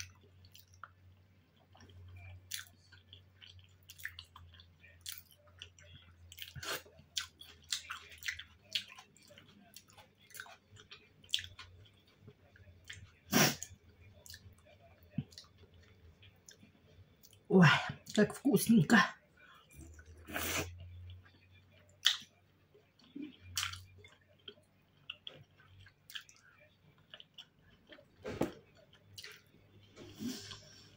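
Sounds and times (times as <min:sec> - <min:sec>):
chewing soft food: 0:00.0 - 0:18.2, 0:19.4 - 0:30.9.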